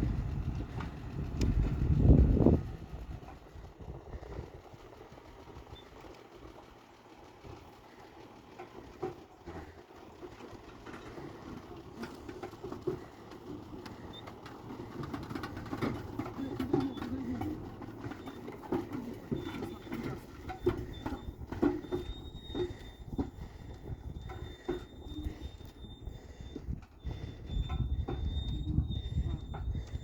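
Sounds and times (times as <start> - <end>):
excavator engine rumble: 0.0 - 30.0.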